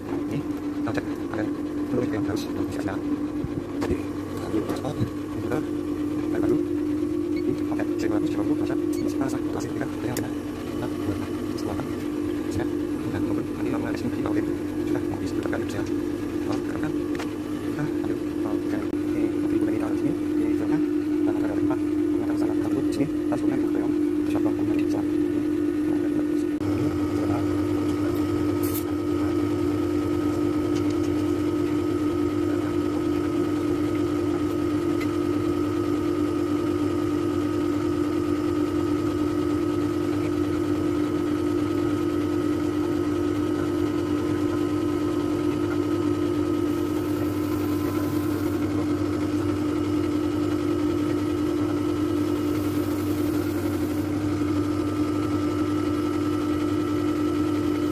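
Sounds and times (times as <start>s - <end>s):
air conditioner unit humming: 0.0s - 57.9s
lower hum: 0.0s - 57.9s.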